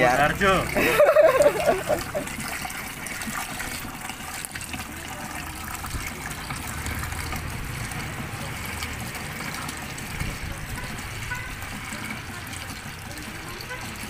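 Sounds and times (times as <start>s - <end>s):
water pouring into bucket: 0.0s - 14.0s.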